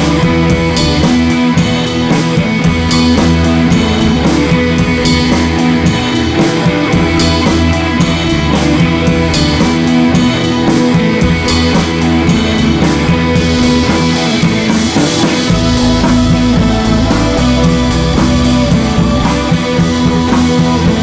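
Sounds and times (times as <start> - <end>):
rock music with guitar and drums: 0.0 - 21.0.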